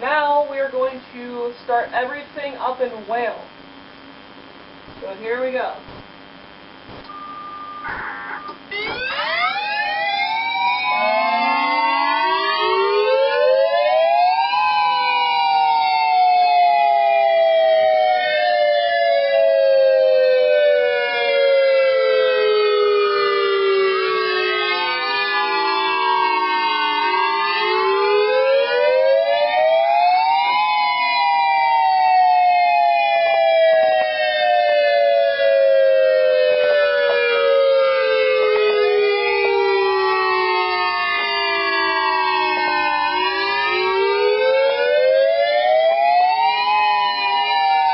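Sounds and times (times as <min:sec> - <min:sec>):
outdoor warning sirens wailing: 0:07.1 - 0:47.9.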